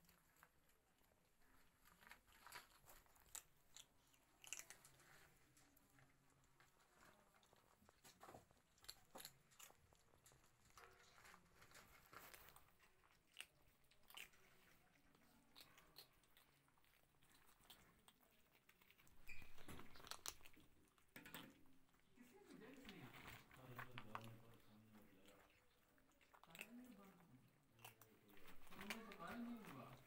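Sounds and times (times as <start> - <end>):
kittens crunching dry kibble: 0.0 - 30.0.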